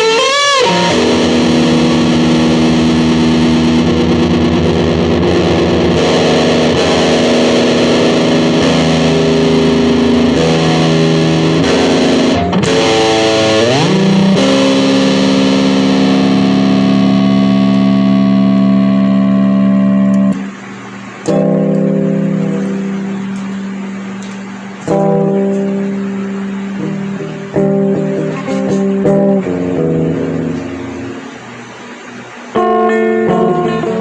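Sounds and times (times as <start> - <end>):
distorted electric guitar drone: 0.0 - 34.0.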